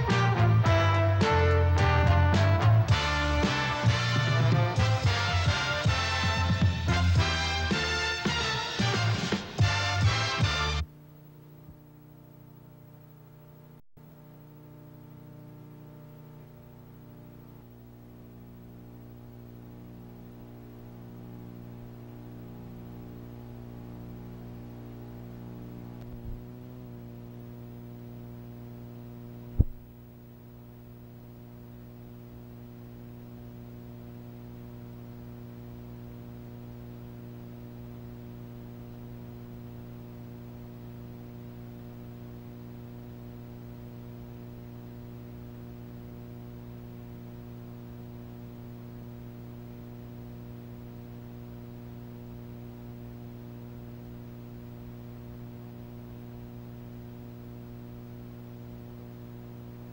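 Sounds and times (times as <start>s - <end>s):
buzzy mains hum: 0.0s - 59.9s.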